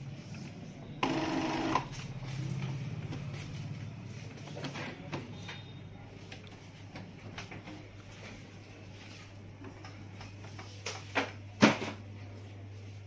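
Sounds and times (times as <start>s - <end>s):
printer humming with faint ticking: 0.0s - 13.0s.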